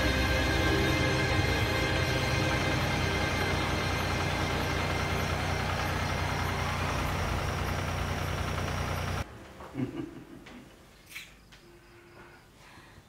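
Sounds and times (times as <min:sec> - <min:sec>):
dark droning film music: 0:00.0 - 0:10.7.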